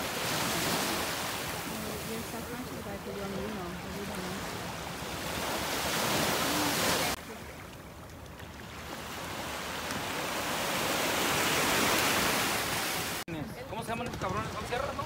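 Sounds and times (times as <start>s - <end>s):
sea waves: 0.0s - 15.0s.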